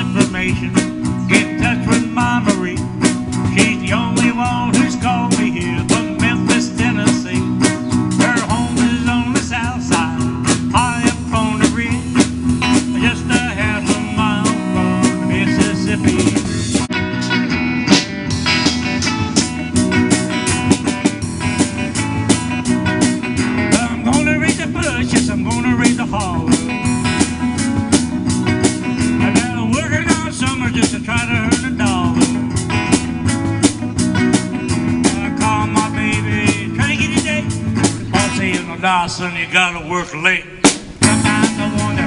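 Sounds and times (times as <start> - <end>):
drum kit beat: 0.0 - 38.8, 40.6 - 42.0
electric guitar playing: 0.0 - 42.0.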